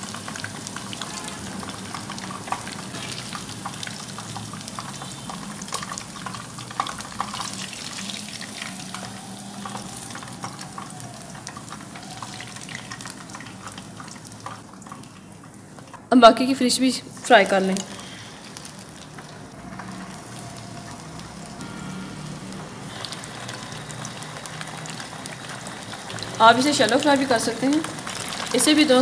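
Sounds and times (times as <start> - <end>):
fish sizzling in hot oil: 0.0 - 15.9, 16.6 - 29.0.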